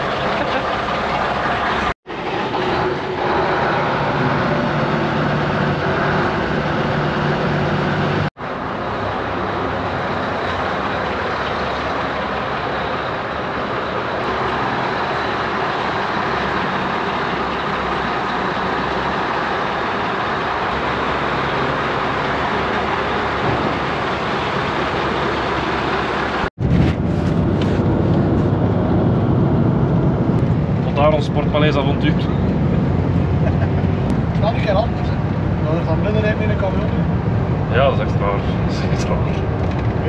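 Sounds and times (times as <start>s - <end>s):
truck engine rumbling: 0.0s - 40.0s.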